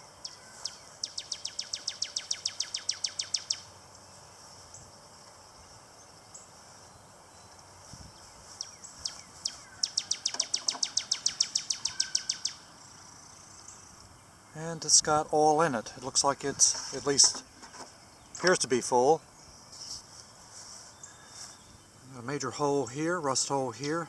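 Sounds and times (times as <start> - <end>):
songbird trilling: 0.1 - 4.9, 5.6 - 20.1, 20.8 - 23.0.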